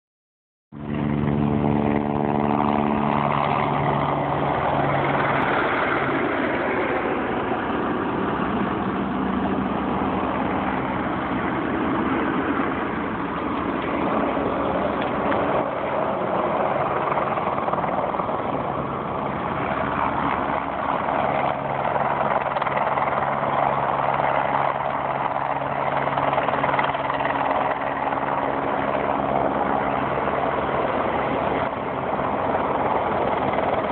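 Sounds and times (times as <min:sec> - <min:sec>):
helicopter engine: 0:00.8 - 0:33.9.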